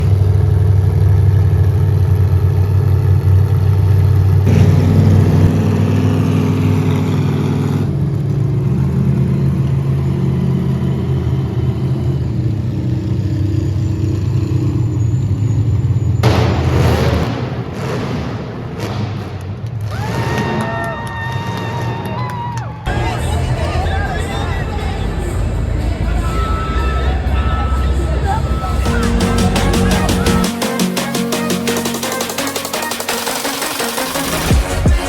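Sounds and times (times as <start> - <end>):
vehicle engine running: 0.0 - 20.4, 22.8 - 35.0.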